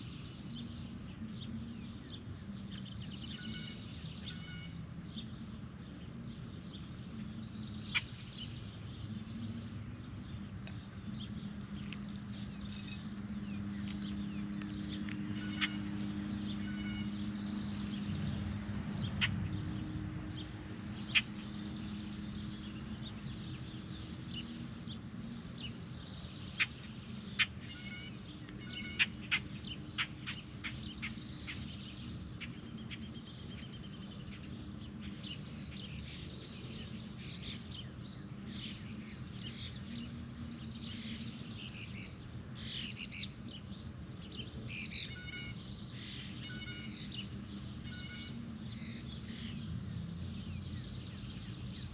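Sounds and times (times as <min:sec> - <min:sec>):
birds chirping and calling: 0:00.0 - 0:51.9.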